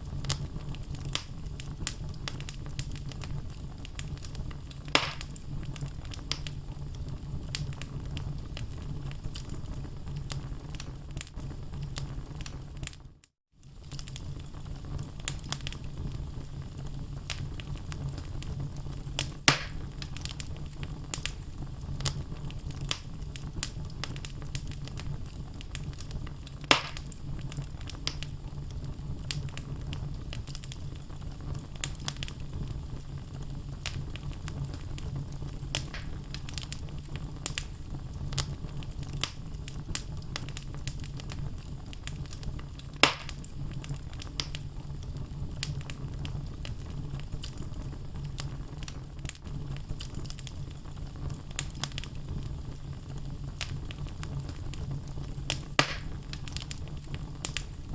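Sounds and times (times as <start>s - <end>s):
loud fire pops: 0.0s - 13.0s, 13.6s - 57.9s
wood fire crackling: 0.0s - 57.9s.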